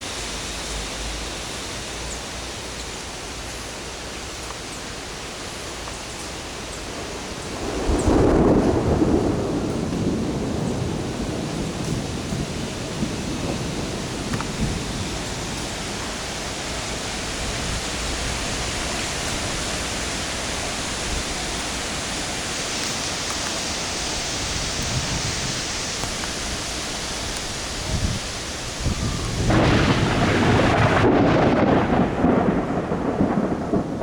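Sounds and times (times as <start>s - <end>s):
rain and wind hiss: 0.0s - 34.0s
thunder rumble: 6.3s - 34.0s.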